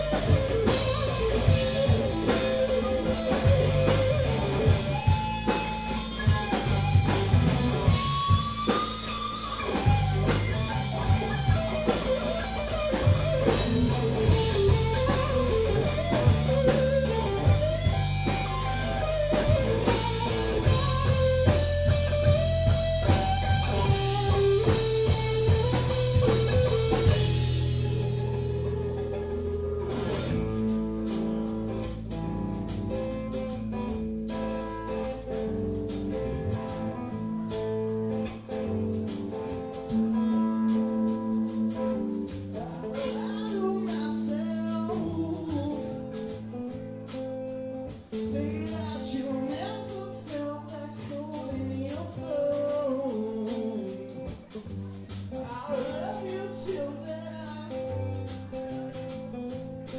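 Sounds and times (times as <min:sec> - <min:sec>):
electric guitar chord ringing: 0:00.0 - 0:48.9
bass guitar: 0:00.0 - 0:59.9
drum kit strokes: 0:00.0 - 0:59.9
sustained guitar notes: 0:00.0 - 0:59.9.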